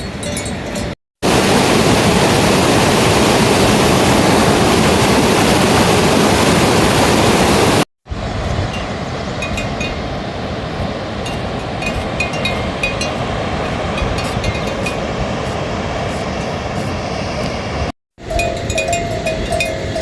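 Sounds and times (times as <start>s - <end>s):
water rushing: 1.2s - 20.0s.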